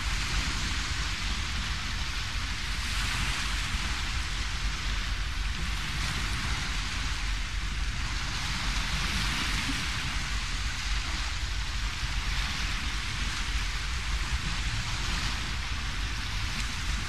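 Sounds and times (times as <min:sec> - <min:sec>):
low rumble: 0:00.0 - 0:17.0
seaside hiss: 0:00.0 - 0:17.0.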